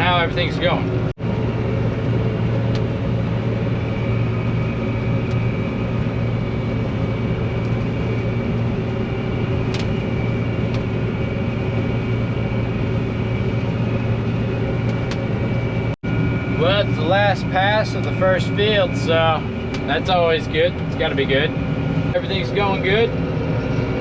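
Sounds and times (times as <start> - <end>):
combine harvester engine hum: 0.0 - 24.0.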